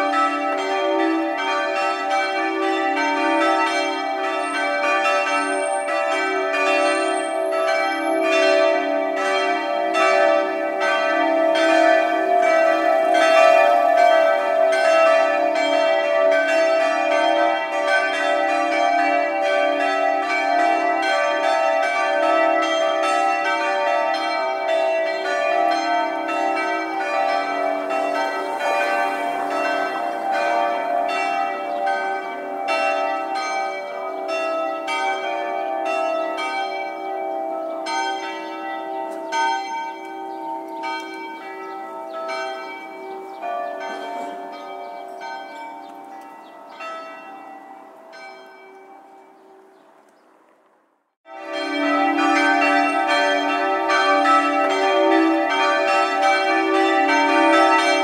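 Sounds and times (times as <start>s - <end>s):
church bells ringing: 0.0s - 49.9s, 51.2s - 58.0s.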